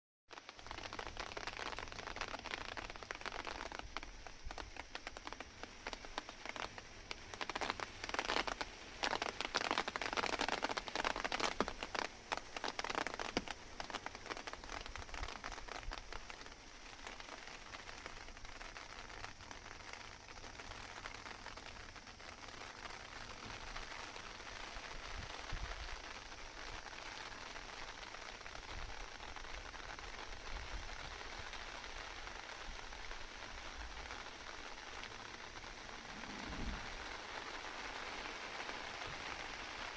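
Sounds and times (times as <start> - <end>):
rain pattering on wooden deck: 0.3 - 39.9.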